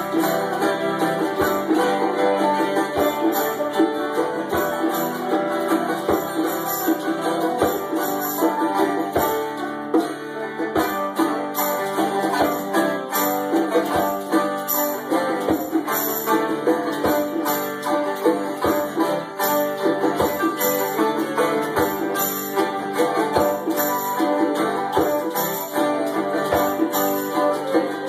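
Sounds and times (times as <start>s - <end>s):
acoustic guitar: 0.0s - 28.0s
banjo: 0.0s - 28.0s
fiddle: 0.0s - 28.0s
tambourine beat: 0.0s - 28.0s.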